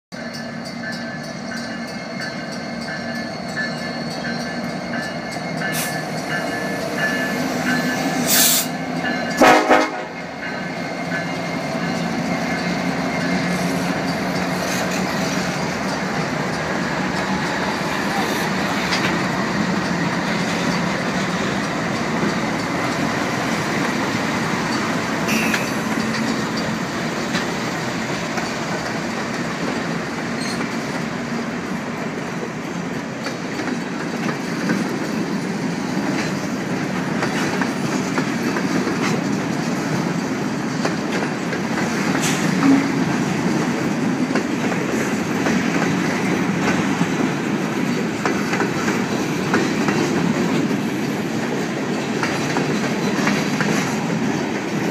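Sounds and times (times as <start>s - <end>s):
train wheels rumbling on rail: 0.1s - 54.9s
wheels clanking over rail joints: 0.2s - 54.9s.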